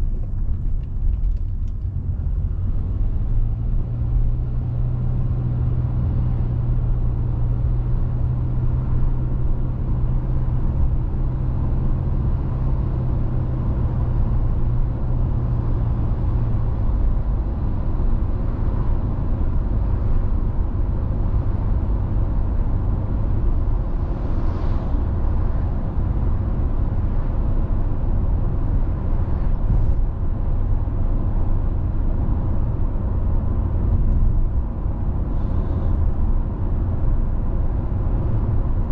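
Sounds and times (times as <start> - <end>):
tyres and engine rumble: 0.0 - 38.9.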